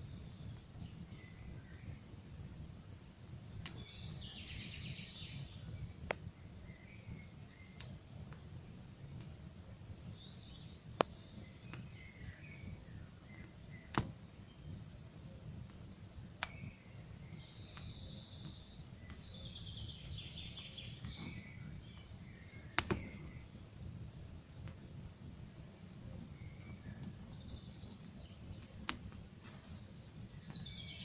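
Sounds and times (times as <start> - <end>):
campfire rumbling: 0.0 - 31.0
forest birdsong: 0.0 - 31.0
fire crackling pops: 0.1 - 31.0.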